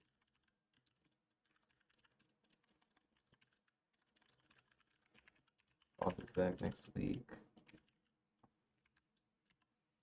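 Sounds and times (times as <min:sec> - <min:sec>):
typing on computer keyboard: 0:00.0 - 0:09.8.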